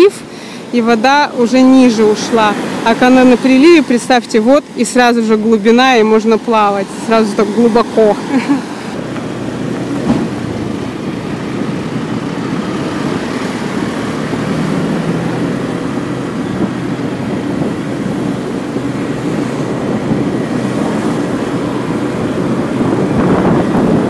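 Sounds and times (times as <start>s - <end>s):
car engine hum: 0.0s - 24.0s
road and tyre noise: 0.0s - 24.0s.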